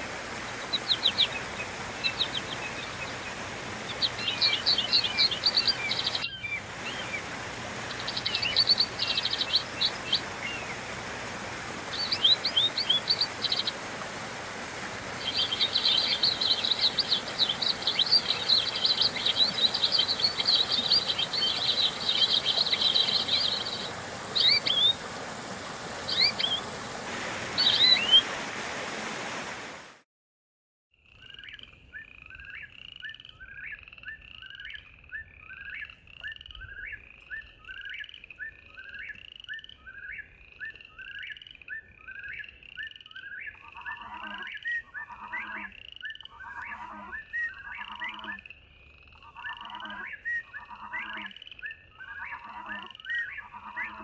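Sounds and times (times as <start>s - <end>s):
songbirds chirping and trilling: 0.0s - 28.4s, 31.0s - 54.0s.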